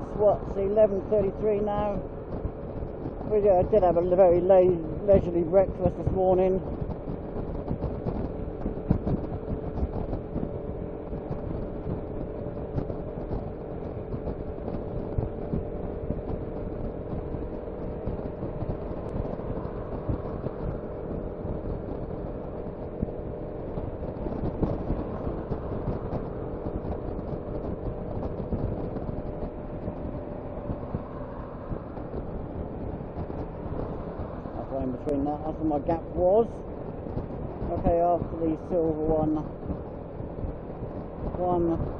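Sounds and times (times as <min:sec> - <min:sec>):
scooter engine droning: 0:00.0 - 0:41.9
wind and road noise: 0:00.0 - 0:41.9.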